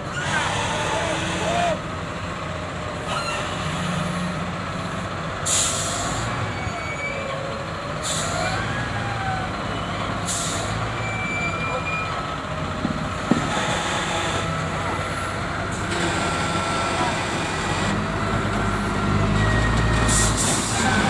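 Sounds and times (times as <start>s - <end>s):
heavy machinery diesel engines: 0.0s - 21.0s.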